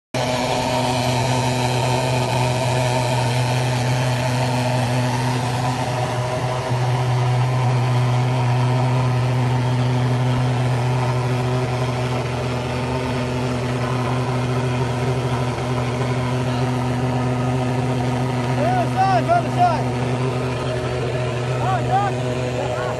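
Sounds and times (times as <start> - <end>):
engine-like drone: 0.1 - 22.9.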